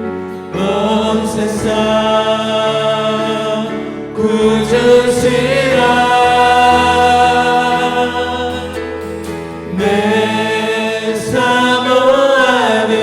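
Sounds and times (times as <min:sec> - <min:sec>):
group singing a worship song: 0:00.0 - 0:13.0.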